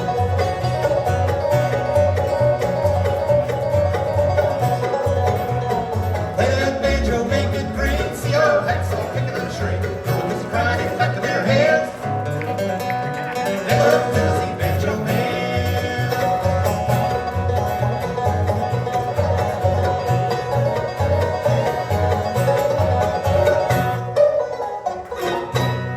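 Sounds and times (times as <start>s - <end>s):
rhythmic bass line: 0.0s - 24.6s
picked banjo lead: 0.0s - 25.9s
strummed guitar: 0.0s - 25.9s.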